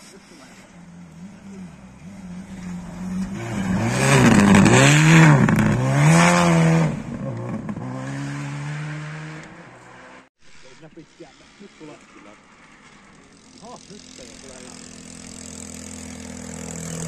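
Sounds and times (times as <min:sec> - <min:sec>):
rally car engine passing: 0:00.1 - 0:10.3, 0:11.0 - 0:17.0.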